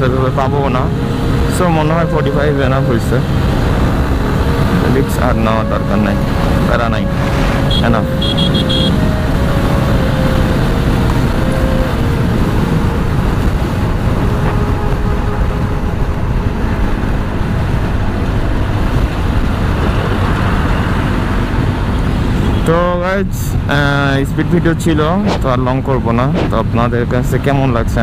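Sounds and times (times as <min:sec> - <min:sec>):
motorcycle engine: 0:00.0 - 0:22.7
wind rushing over microphone: 0:00.0 - 0:27.5.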